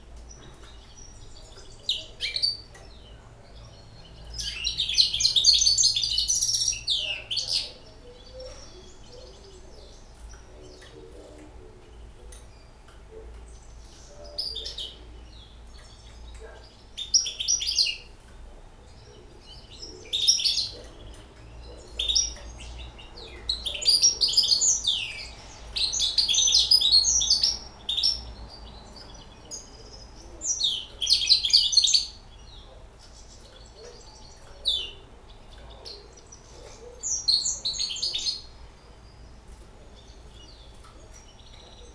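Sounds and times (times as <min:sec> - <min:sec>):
finch singing: 0:00.0 - 0:41.9.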